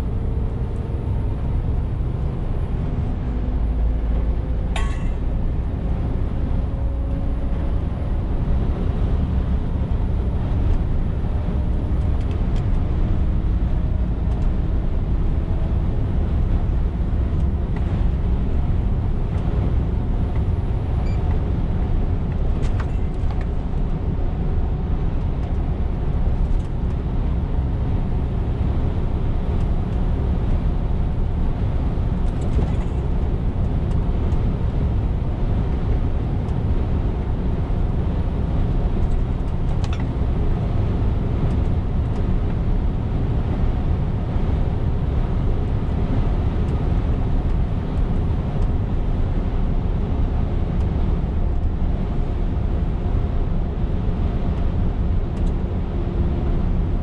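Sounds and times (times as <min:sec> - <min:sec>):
truck diesel engine: 0:00.0 - 0:56.9
road noise: 0:00.0 - 0:57.0.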